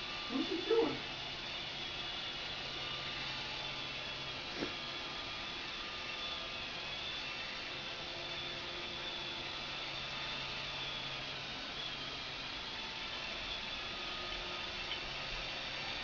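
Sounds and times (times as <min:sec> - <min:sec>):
robot vacuum cleaner whirring: 0:00.0 - 0:16.0.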